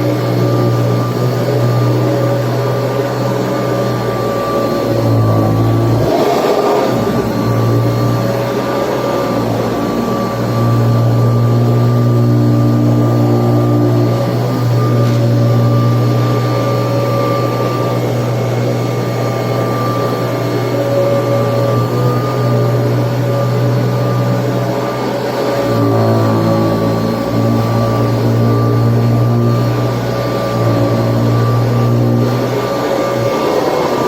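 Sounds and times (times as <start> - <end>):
upright vacuum cleaner running: 0.0 - 34.0.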